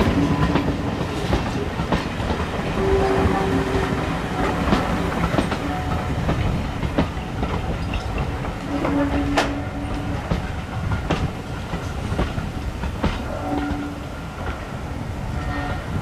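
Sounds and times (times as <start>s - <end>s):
wheels clacking over rail joints: 0.0s - 14.7s
train wheels rumbling: 0.0s - 16.0s.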